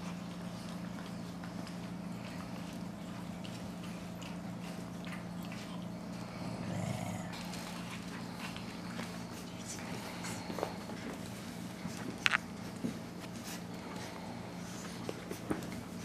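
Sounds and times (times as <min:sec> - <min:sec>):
puppy play noises: 0:00.0 - 0:16.0
steady low hum: 0:00.0 - 0:16.0.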